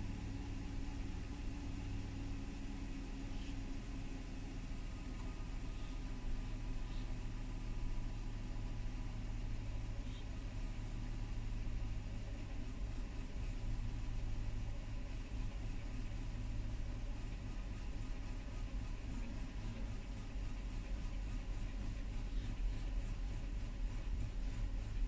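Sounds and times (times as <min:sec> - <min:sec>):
car engine idling roughly: 0:00.0 - 0:25.0.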